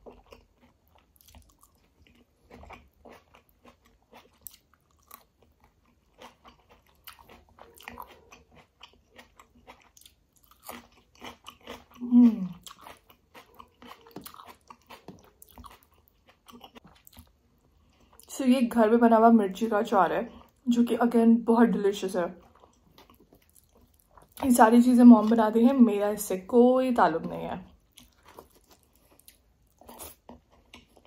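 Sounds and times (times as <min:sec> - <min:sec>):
biting and chewing food: 0:00.0 - 0:18.3, 0:22.3 - 0:25.4, 0:27.2 - 0:31.0.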